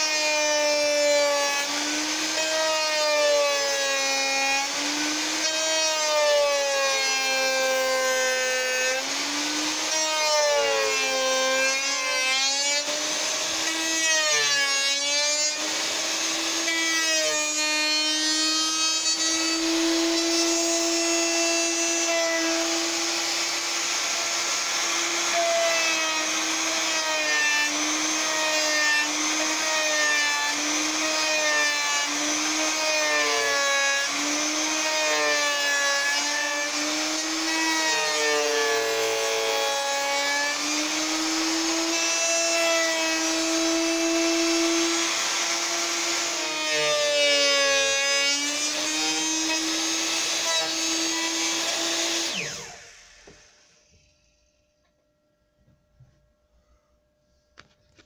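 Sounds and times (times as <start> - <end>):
router motor whining while cutting wood: 0.0 - 54.1.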